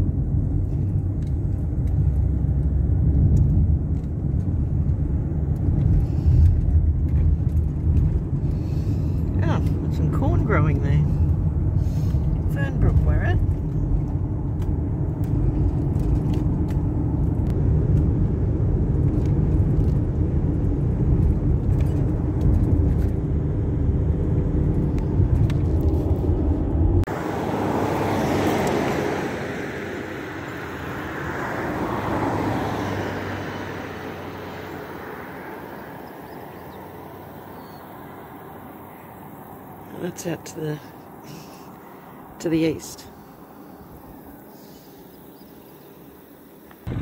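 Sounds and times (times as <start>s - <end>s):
car road noise and engine rumble: 0.0s - 47.0s.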